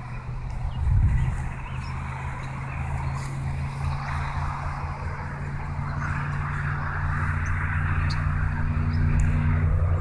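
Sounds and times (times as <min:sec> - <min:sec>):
road and tyre noise: 0:00.0 - 0:10.0
vehicle engine humming: 0:00.0 - 0:10.0.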